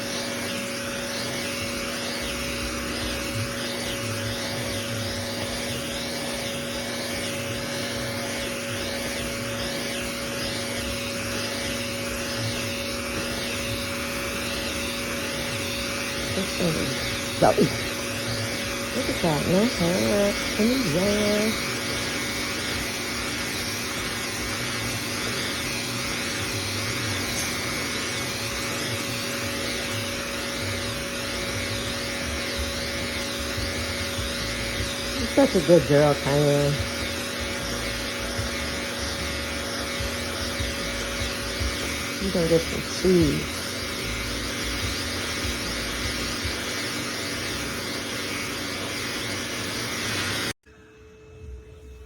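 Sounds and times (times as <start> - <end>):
grooming vacuum running: 0.0 - 52.0.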